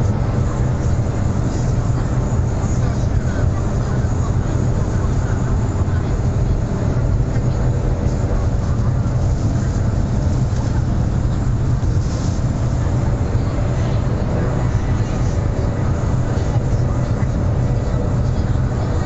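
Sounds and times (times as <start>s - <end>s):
train cabin low rumble: 0.0s - 19.0s.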